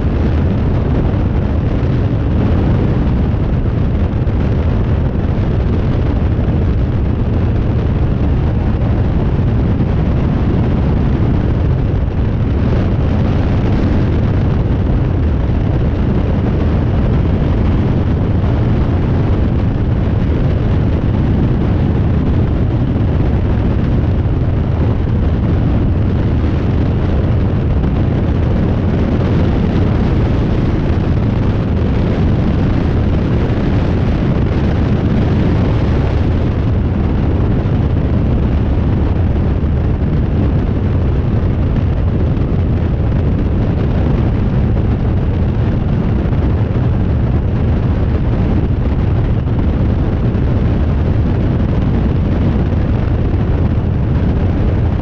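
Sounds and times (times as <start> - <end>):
aircraft engine droning: 0.0 - 55.0
wind on microphone: 0.0 - 55.0.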